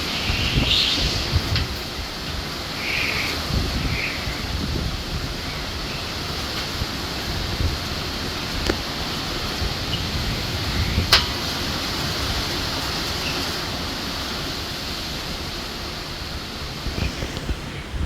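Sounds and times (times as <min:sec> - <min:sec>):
wind and rain rushing: 0:00.0 - 0:18.0.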